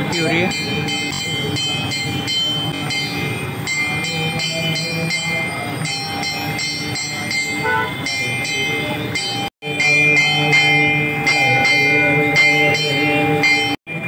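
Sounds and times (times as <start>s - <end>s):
temple bells ringing rapidly: 0.0s - 14.0s.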